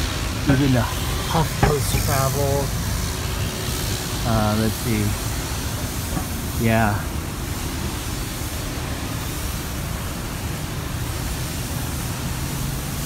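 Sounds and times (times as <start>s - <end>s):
street background hiss and rumble: 0.0s - 13.0s.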